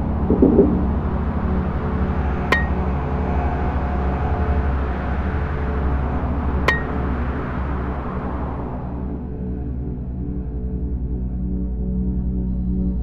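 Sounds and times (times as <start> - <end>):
low steady drone: 0.0 - 13.0.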